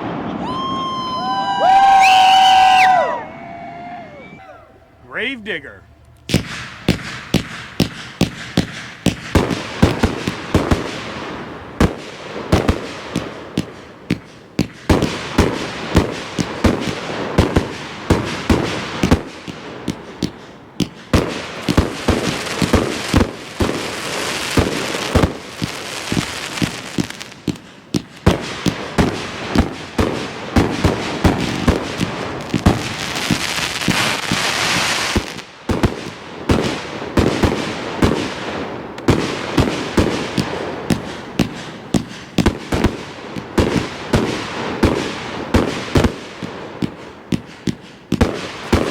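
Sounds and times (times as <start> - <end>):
firework crackle overhead: 0.0 - 48.9
firework tube launch shots: 6.2 - 48.9.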